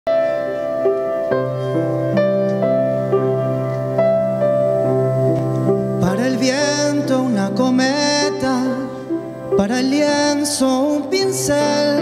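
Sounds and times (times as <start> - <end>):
keyboard chords: 0.1 - 12.0.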